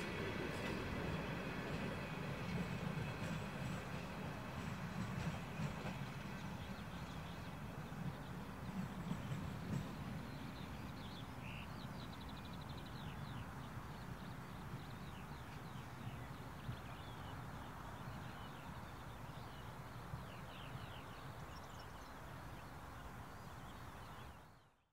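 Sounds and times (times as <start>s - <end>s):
train rumbling: 0.0s - 24.2s.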